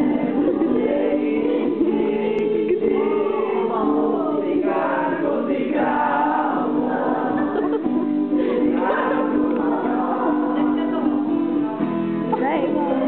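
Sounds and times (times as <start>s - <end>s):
group of people singing: 0.0s - 13.0s.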